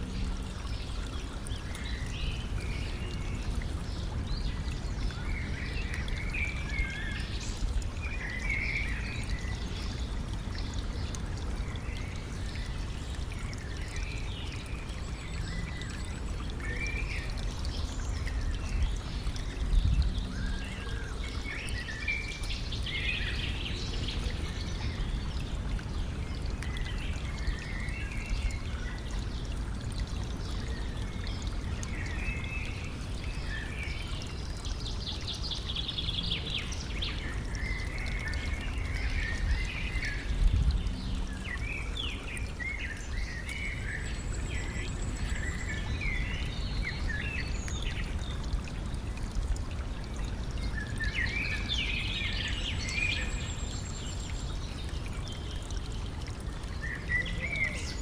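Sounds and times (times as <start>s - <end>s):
songbirds chirping: 0.0s - 58.0s
stream trickling: 0.0s - 58.0s.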